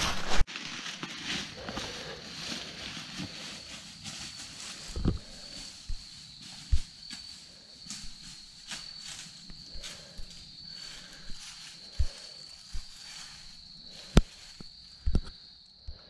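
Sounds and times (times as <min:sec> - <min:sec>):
footsteps crunching dry leaves: 0:00.0 - 0:14.8.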